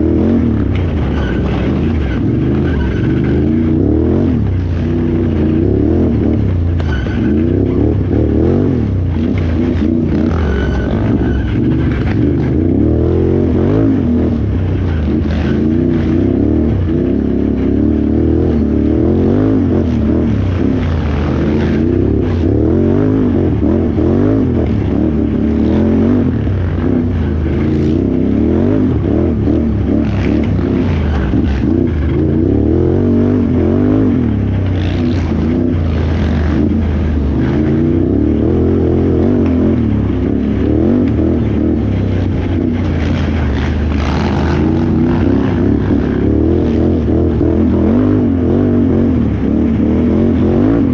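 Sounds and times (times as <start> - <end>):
engine revving up and down: 0.0 - 50.9.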